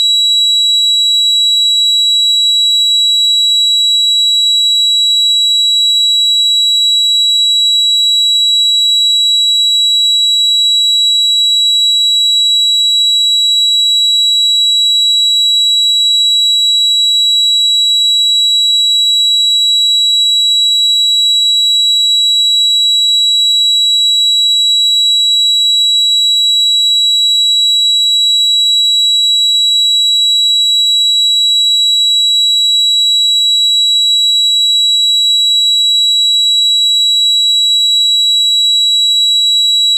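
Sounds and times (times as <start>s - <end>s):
high-pitched ringing tone: 0.0s - 39.9s.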